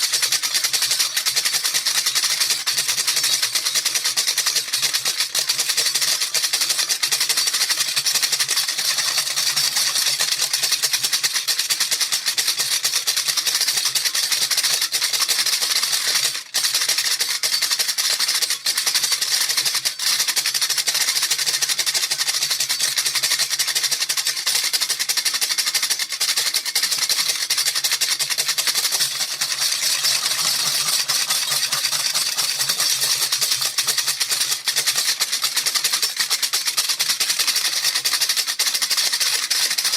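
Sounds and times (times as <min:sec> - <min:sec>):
hand rattle shaking: 0:00.0 - 0:39.9.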